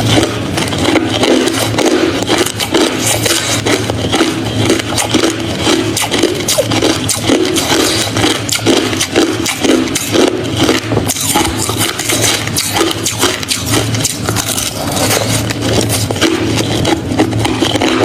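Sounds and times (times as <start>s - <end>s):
chewing crushed ice: 0.0s - 18.0s
low jaw rumble: 0.0s - 18.0s.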